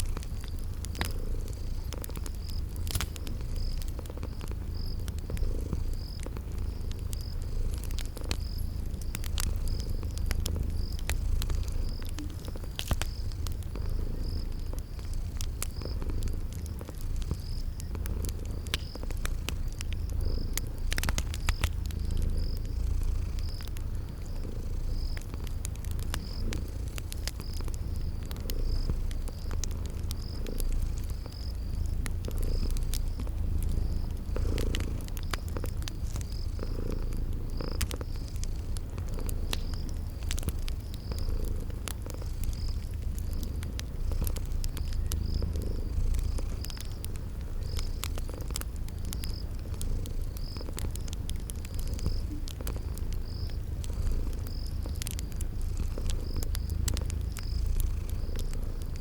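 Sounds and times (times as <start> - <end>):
cat purring: 0.0 - 59.0
crickets chirping: 0.0 - 59.0
wood fire crackling and popping: 0.0 - 59.0.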